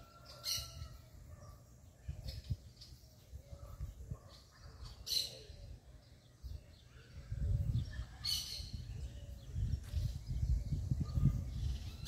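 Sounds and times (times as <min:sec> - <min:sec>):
faint lower bird calls: 0:00.0 - 0:12.0.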